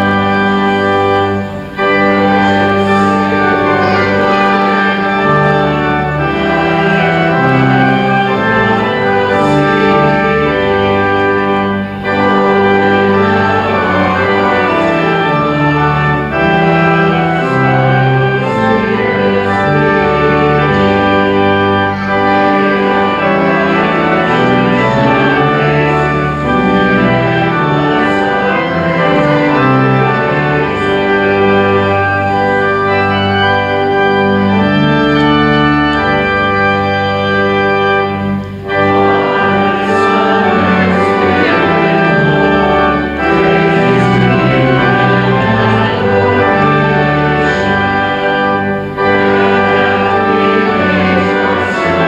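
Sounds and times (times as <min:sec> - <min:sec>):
church organ playing hymn: 0:00.0 - 0:52.0.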